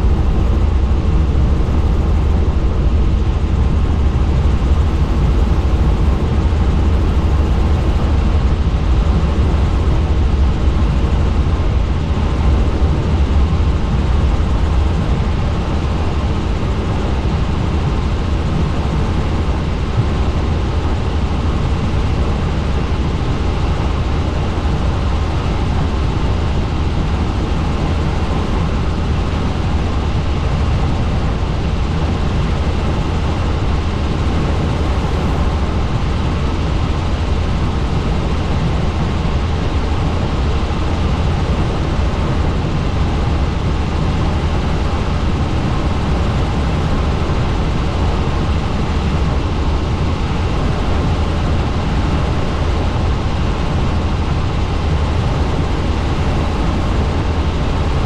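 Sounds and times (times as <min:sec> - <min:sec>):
helicopter rotor rumble: 0:00.0 - 0:58.0.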